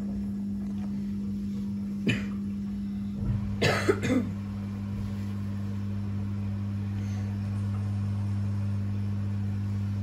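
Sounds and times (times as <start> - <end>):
washing machine drum humming: 0.0 - 10.0.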